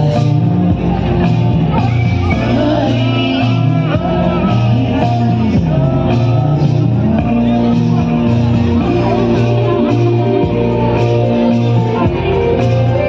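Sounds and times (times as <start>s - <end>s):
repeating bass line: 0.0s - 13.0s
song with singer: 0.0s - 13.0s.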